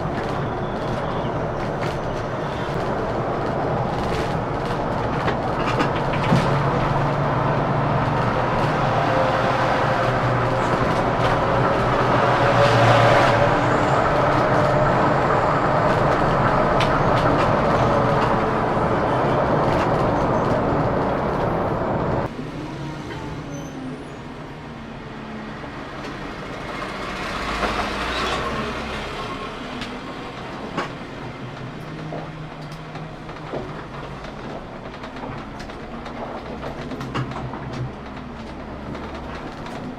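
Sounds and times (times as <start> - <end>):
coach engine and road noise: 0.0 - 39.9.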